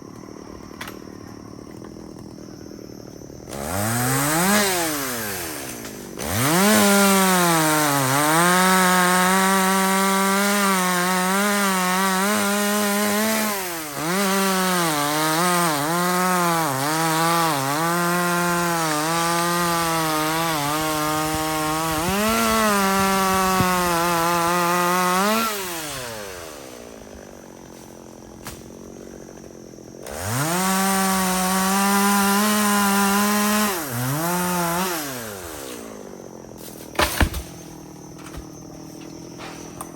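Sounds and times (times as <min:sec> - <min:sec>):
chainsaw cutting wood: 0:00.1 - 0:39.9.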